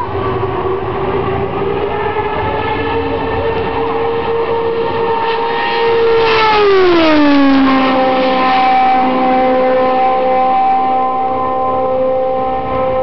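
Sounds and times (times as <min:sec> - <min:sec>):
race car passing by: 0:00.0 - 0:13.0.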